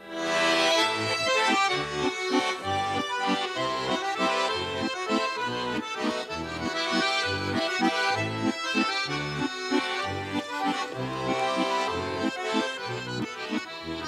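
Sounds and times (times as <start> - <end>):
button accordion playing folk tune: 0.0 - 14.0.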